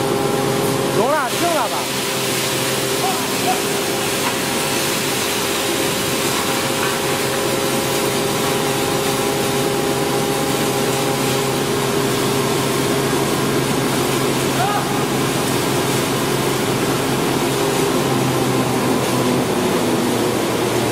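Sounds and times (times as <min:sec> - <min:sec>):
hammer mill running: 0:00.0 - 0:20.9
steady mechanical hum: 0:00.0 - 0:20.9.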